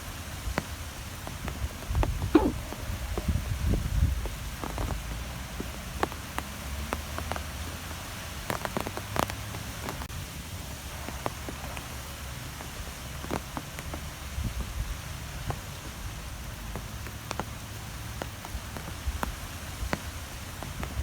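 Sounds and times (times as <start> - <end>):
wind rumble and hiss: 0.0 - 21.0.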